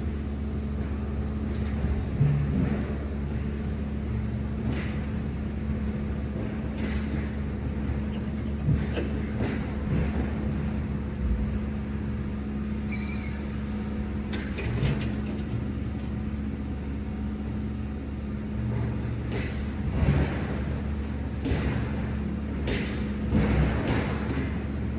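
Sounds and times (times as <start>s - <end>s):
truck engine and road rumble: 0.0s - 24.9s.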